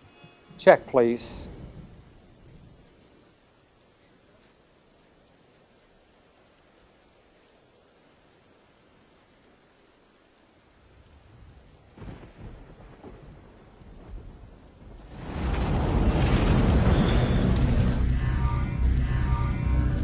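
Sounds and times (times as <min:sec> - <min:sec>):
faint steady rain: 0:00.0 - 0:20.0
thunder rumbling: 0:00.6 - 0:20.0.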